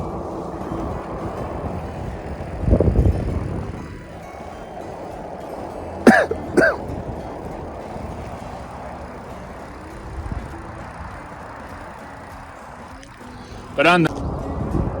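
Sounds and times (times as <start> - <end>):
wind and riding noise: 0.0 - 15.0.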